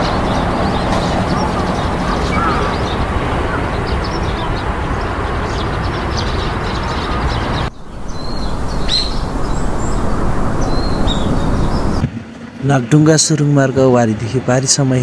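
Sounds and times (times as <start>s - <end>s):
car driving slowly: 0.0s - 12.1s
birds chirping: 0.0s - 14.1s.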